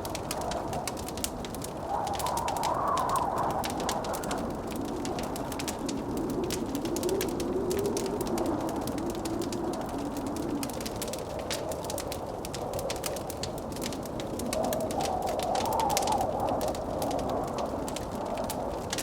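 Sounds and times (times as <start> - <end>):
blizzard wind howling: 0.0 - 19.0
wood fire crackling: 0.0 - 19.0.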